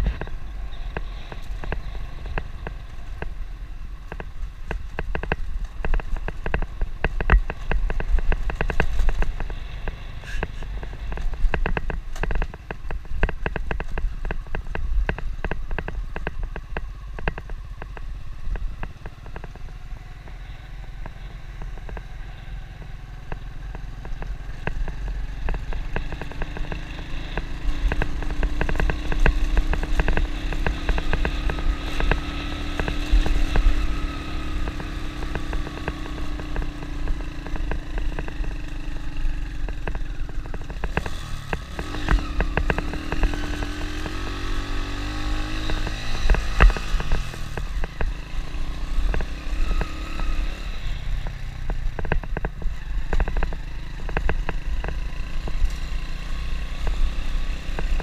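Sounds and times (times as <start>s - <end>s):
clatter from bumpy road: 0.0s - 58.0s
motorbike engine running: 0.0s - 58.0s.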